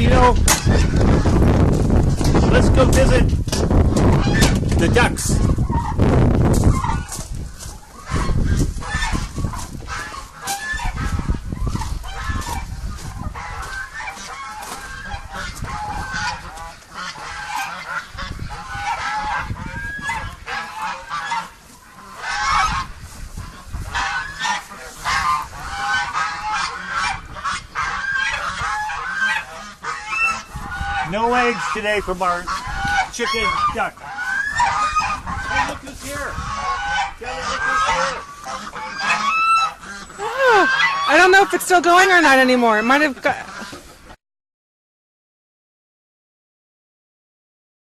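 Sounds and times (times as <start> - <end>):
geese honking: 0.0 - 44.2.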